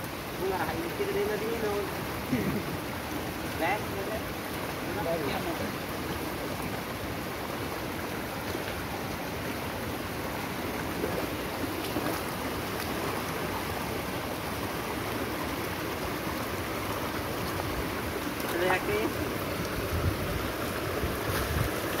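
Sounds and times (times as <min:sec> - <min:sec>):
stream rushing: 0:00.0 - 0:22.0.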